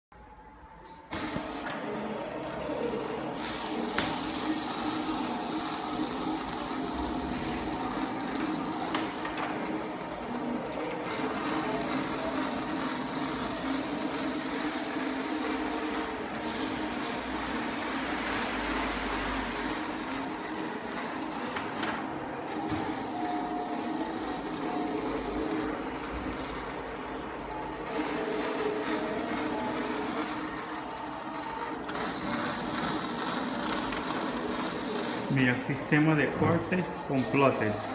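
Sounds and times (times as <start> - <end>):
cutting plotter motors whirring: 0.2 - 37.9.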